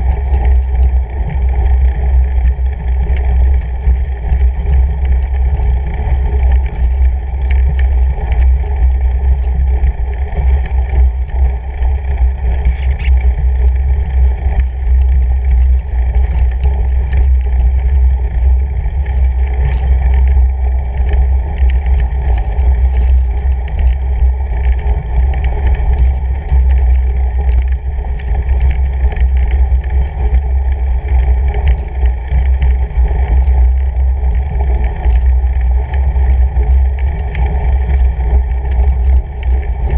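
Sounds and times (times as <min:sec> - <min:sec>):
bike tyre and wind rumble: 0:00.0 - 0:39.9.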